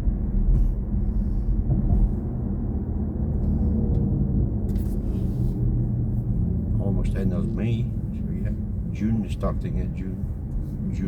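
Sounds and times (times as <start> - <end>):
road and tyre rumble: 0.0 - 11.0.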